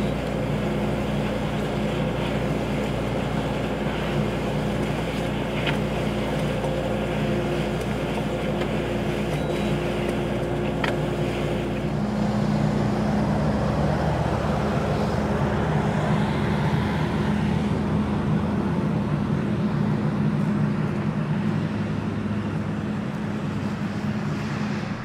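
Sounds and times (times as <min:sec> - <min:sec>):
loader engine running: 0:00.0 - 0:25.0.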